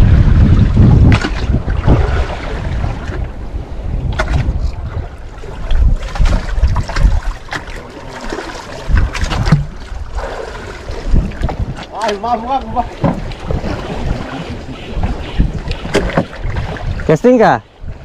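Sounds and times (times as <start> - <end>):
water washing against hull: 0.0 - 18.0
wind buffeting microphone: 0.0 - 18.0.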